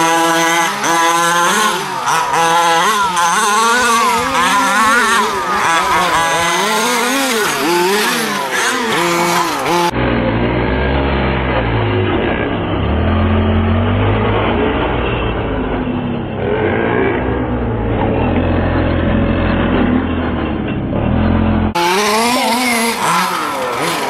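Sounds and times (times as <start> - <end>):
small two-stroke engine revving: 0.0 - 24.0.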